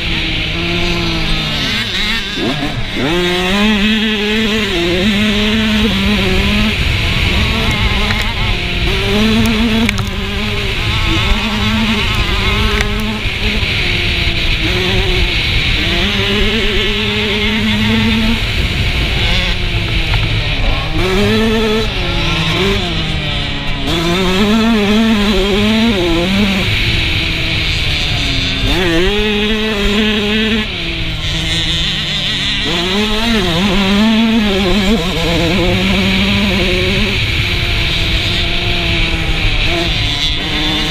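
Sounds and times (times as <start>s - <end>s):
dirt bike engine running: 0.0s - 40.9s
wind rushing over microphone: 2.7s - 40.9s.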